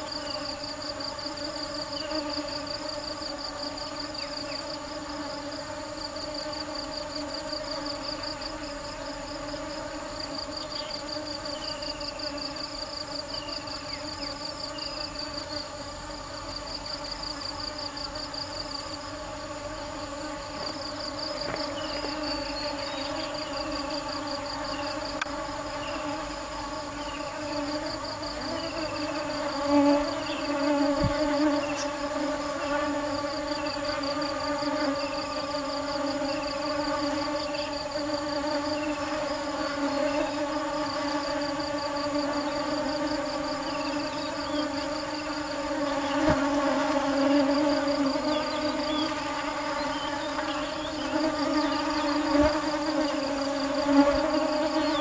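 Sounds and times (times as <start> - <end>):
honey bees buzzing: 0.0 - 55.0.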